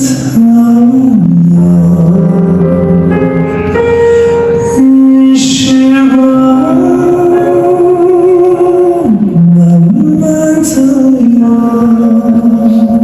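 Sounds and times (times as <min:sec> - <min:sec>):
man singing long notes: 0:00.0 - 0:13.0
musical accompaniment: 0:00.0 - 0:13.0.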